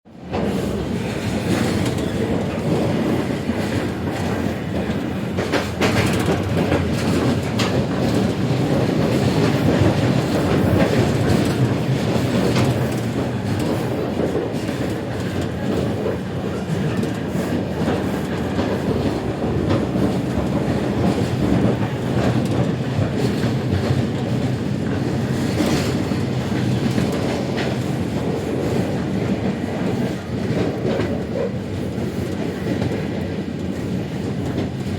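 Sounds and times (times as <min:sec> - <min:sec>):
train wheels rumbling on track: 0:00.1 - 0:34.9
rail-joint clicks and knocks: 0:00.2 - 0:34.9.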